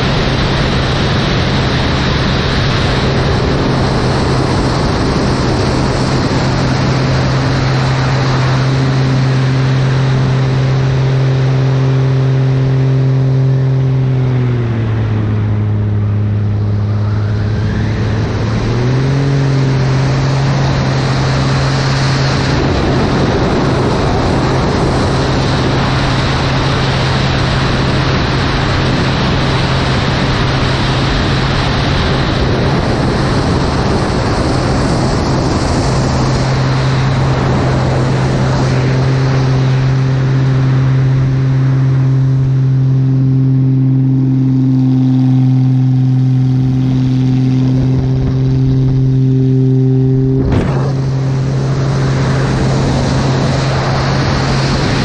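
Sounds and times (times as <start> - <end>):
light aircraft engine droning: 0.0 - 55.0
rushing wind: 0.0 - 55.0.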